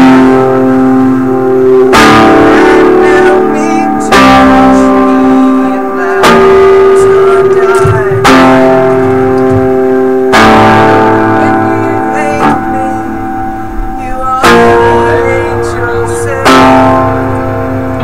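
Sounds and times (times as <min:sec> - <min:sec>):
guitars and bass ringing chords: 0:00.0 - 0:18.0.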